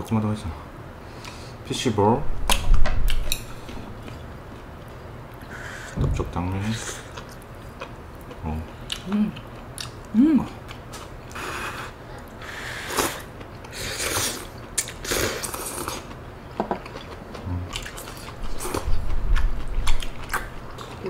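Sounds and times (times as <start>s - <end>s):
person chewing: 3.1s - 6.0s, 6.6s - 21.0s.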